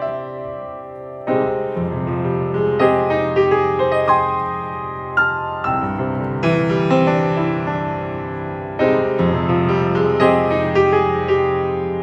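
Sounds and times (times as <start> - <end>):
solo grand piano: 0.0 - 12.0.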